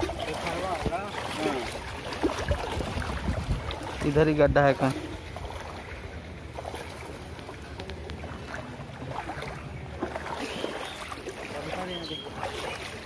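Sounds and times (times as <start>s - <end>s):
wind rumbling on microphone: 0.0s - 10.9s
water sloshing around wading legs: 0.0s - 13.0s.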